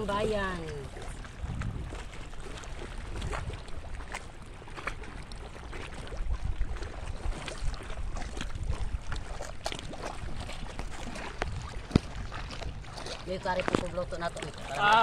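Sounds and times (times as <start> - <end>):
small waves on rocky shore: 0.0 - 15.0
water splashes: 0.0 - 15.0
wind buffeting microphone: 0.0 - 15.0.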